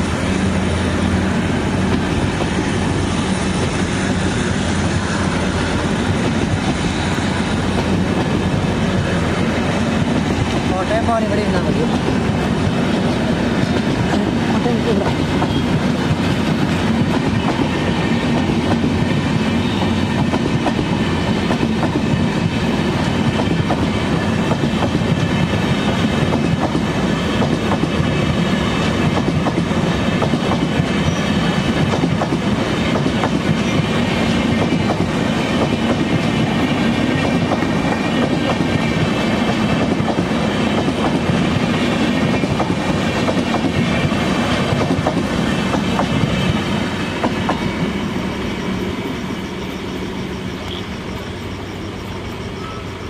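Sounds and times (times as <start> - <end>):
train passing with rumble: 0.0 - 53.0.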